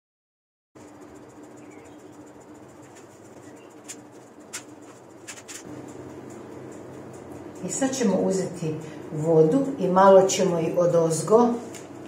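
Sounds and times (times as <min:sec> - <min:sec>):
low steady hum: 0:00.8 - 0:12.0.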